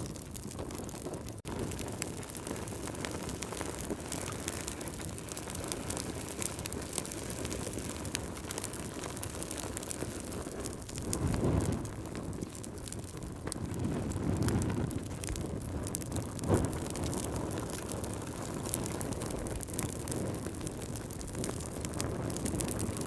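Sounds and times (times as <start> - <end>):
fire popping and snapping: 0.0 - 23.0
flames rumbling: 0.0 - 23.0.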